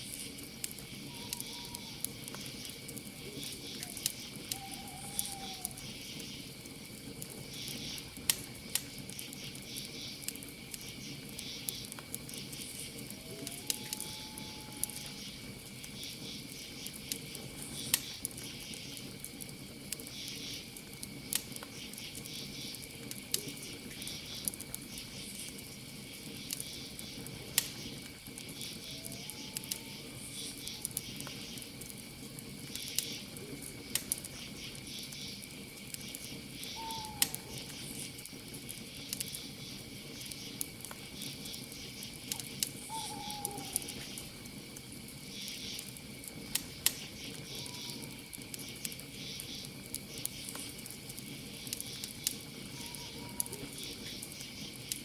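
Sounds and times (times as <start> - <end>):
campfire crackling and popping: 0.0 - 55.0
crickets chirping: 0.0 - 55.0.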